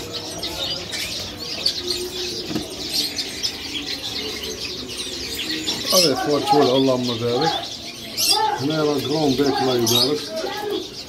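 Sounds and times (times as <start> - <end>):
finches chirping: 0.0 - 11.0.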